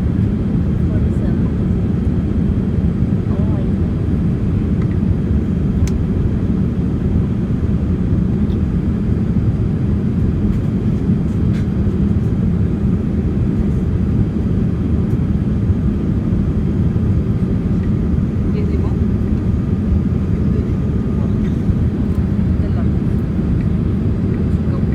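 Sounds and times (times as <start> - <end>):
airliner cabin engine roar: 0.0 - 24.9.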